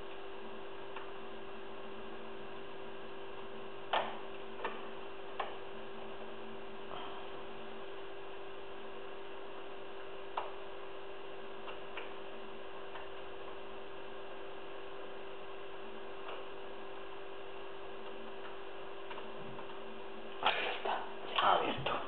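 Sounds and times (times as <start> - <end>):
electrical hum and hiss: 0.0 - 22.0.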